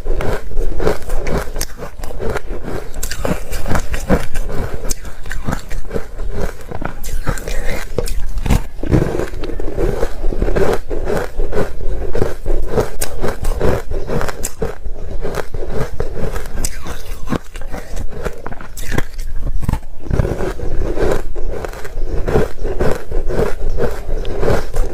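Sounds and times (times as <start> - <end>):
chewing crunchy ice: 0.0 - 24.9.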